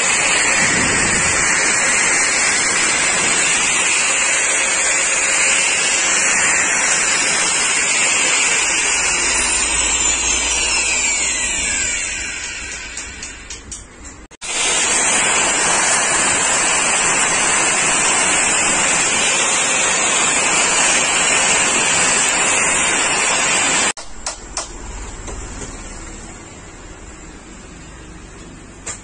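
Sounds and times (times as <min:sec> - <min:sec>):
electric cutter running: 0:00.0 - 0:24.0.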